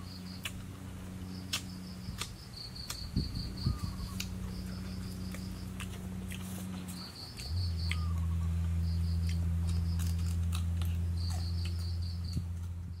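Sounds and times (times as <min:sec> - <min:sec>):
insects chirping: 0:00.0 - 0:13.0
steady low hum: 0:00.0 - 0:13.0.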